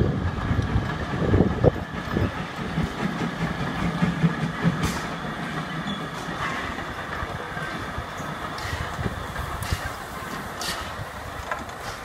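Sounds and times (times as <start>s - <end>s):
train coaches rolling past: 0.0s - 12.0s.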